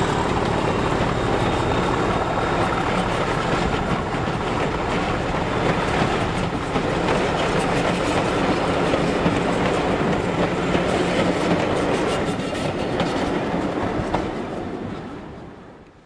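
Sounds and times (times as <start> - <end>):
wheels clicking over rail joints: 0.0 - 14.4
train coaches rolling past: 0.0 - 16.0.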